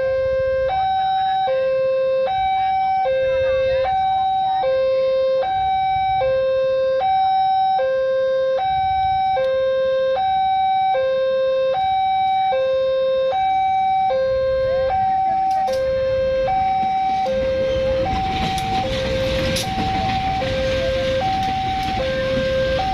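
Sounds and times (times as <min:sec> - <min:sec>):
two-tone hi-lo siren: 0:00.0 - 0:22.9.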